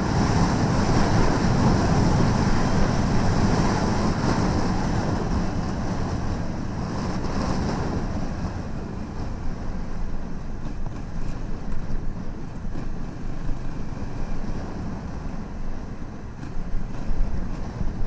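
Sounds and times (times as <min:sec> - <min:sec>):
motorcycle riding on gravel: 0:00.0 - 0:18.0
wind rumble on microphone: 0:00.0 - 0:18.0.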